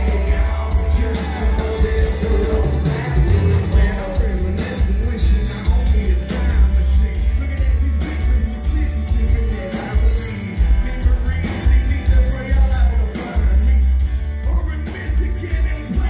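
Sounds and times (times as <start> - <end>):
electric and acoustic guitars: 0.0 - 16.0
man singing lead: 0.0 - 16.0.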